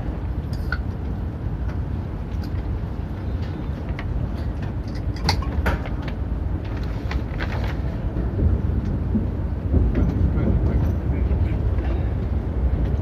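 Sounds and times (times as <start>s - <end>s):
train rumble inside cabin: 0.0s - 13.0s.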